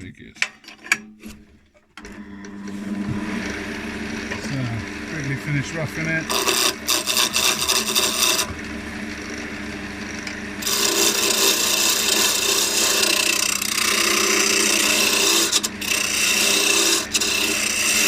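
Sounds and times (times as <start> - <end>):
turning tool cutting wood: 1.2 - 18.0
lathe motor hum: 2.0 - 18.0.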